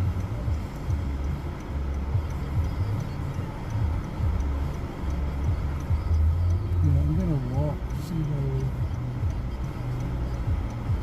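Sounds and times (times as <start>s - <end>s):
car rumbling: 0.0s - 11.0s.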